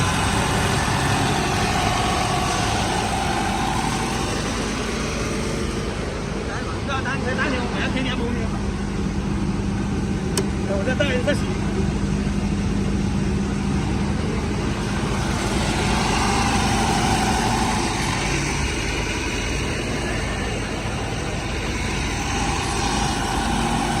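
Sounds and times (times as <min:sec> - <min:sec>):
generator engine rumble: 0:00.0 - 0:24.0.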